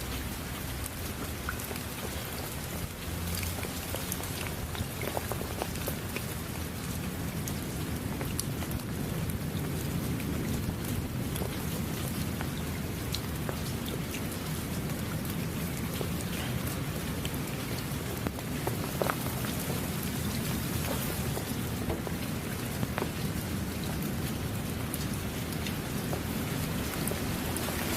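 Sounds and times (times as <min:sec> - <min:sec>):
heavy rain hissing: 0:00.0 - 0:27.9
raindrops ticking on surfaces: 0:00.0 - 0:27.9.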